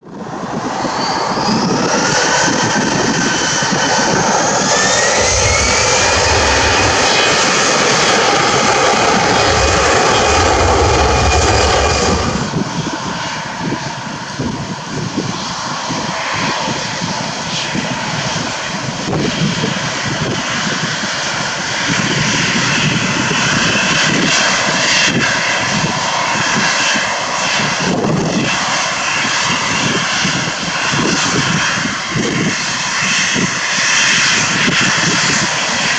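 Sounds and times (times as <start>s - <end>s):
jet engines at takeoff thrust: 0.0s - 35.9s
rising jet engine whine: 0.0s - 35.9s.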